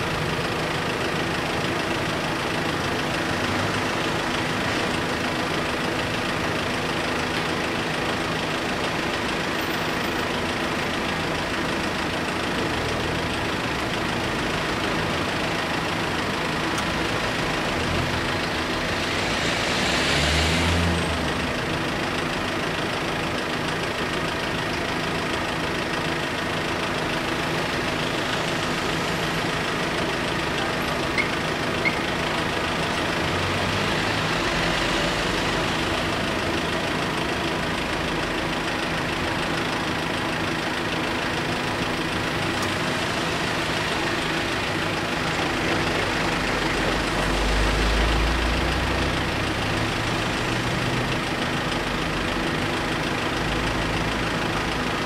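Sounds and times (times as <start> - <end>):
vehicle engines idling: 0.0 - 55.0.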